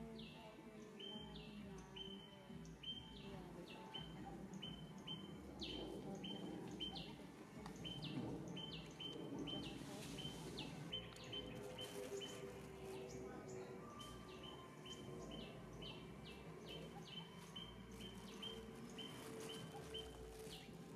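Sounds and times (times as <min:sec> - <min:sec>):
faint background noise: 0:00.0 - 0:20.9
bird calling: 0:01.0 - 0:20.9.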